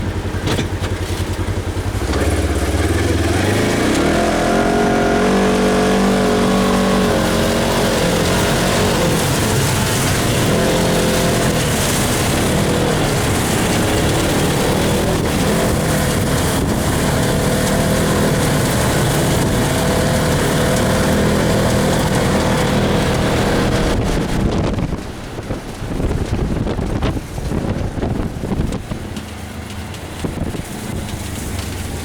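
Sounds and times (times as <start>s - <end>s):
rough ride rattle: 0.0s - 32.0s
vehicle engine running: 0.0s - 32.0s
wind noise: 1.9s - 32.0s.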